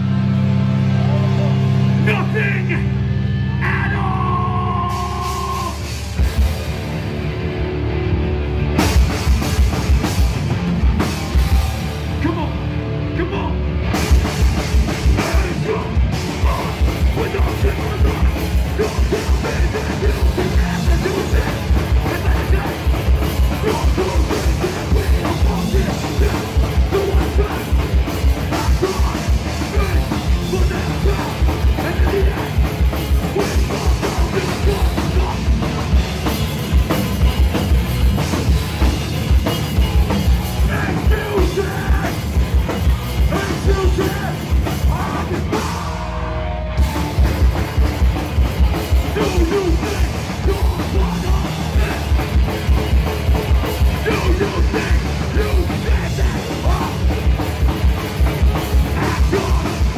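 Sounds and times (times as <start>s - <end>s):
bass guitar: 0.0s - 59.9s
distorted electric guitars: 0.0s - 59.9s
rapid bass drum beats: 8.6s - 12.6s, 13.8s - 59.9s
fast drumming: 8.8s - 12.3s, 13.9s - 59.9s.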